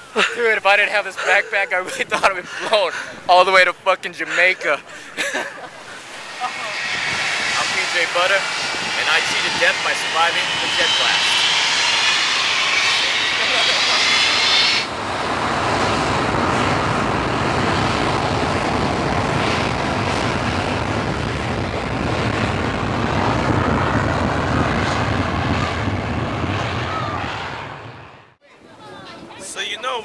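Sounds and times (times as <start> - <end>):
jet engine whine: 0.0 - 28.4
jet engines roaring: 0.0 - 28.4.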